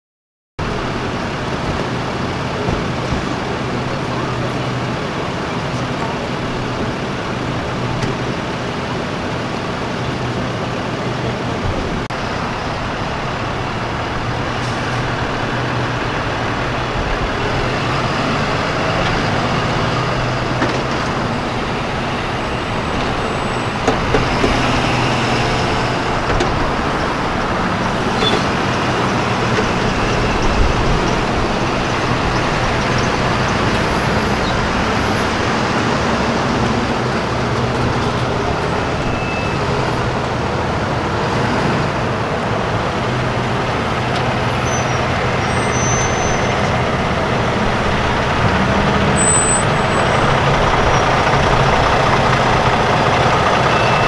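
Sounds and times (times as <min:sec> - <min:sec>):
trucks driving past: 0:00.6 - 0:54.0.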